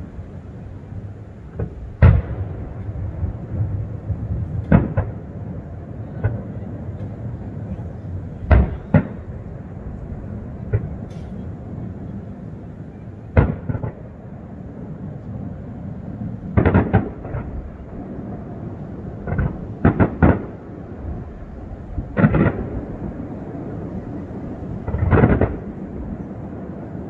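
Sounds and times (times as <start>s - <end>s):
fireworks bursting: 0.0s - 26.9s
steady background noise: 0.0s - 27.0s.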